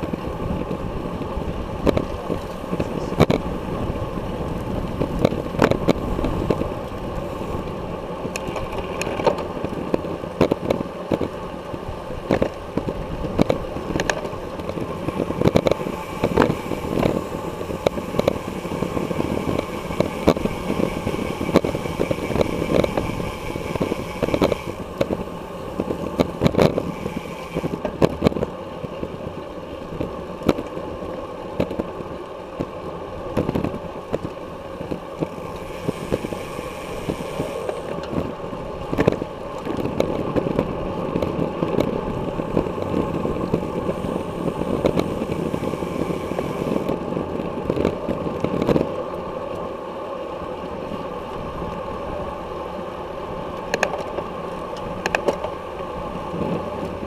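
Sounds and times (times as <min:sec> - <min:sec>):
wind noise: 0:00.0 - 0:49.6, 0:50.4 - 0:57.0
road noise: 0:00.0 - 0:57.0.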